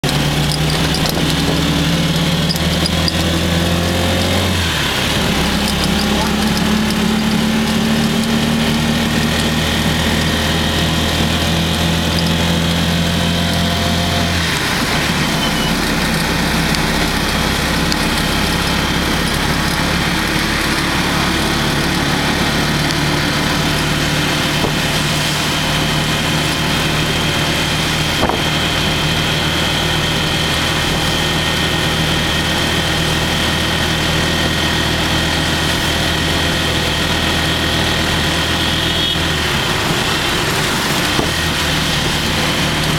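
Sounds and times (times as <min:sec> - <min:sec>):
rain: 0:00.0 - 0:42.9
tyres on wet road: 0:00.0 - 0:42.9
vehicle engine running: 0:00.0 - 0:42.9.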